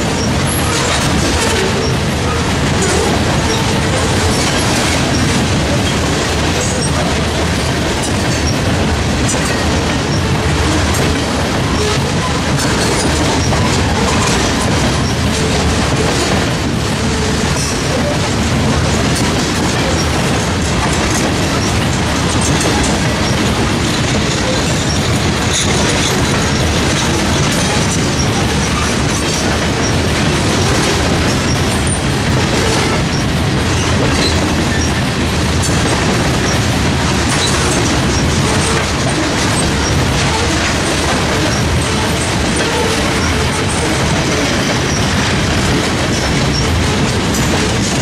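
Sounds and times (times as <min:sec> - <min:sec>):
steel wheels on rail: 0:00.0 - 0:48.0.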